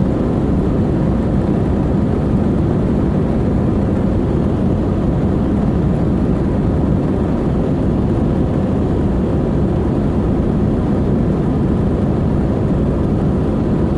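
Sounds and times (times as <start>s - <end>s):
faint constant hum: 0.0s - 13.9s
jet engine cabin rumble: 0.0s - 13.9s.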